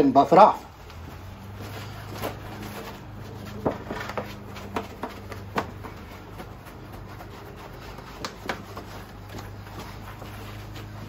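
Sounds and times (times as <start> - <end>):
short scuffs: 0.8 - 11.0
towel rubbing plastic lens: 0.8 - 11.0.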